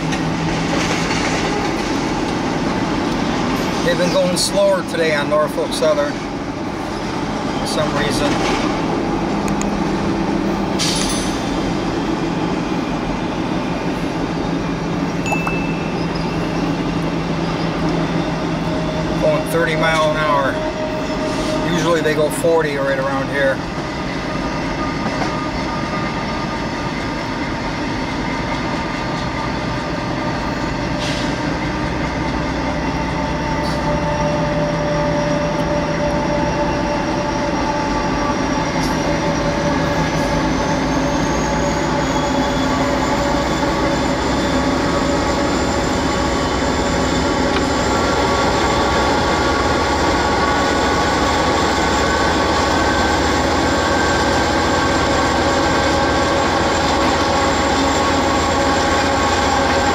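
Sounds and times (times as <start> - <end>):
diesel locomotives droning: 0.0 - 59.9
road noise: 0.0 - 59.9.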